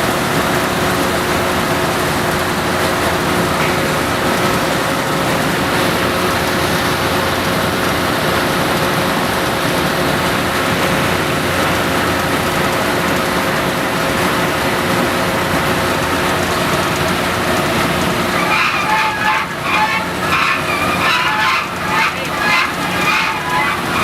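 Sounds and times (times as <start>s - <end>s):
drilling rig machinery running: 0.0s - 24.0s.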